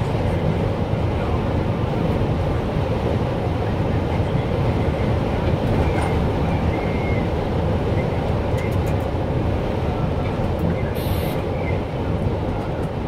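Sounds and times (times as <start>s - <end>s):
engine and tyre noise in car: 0.0s - 13.0s.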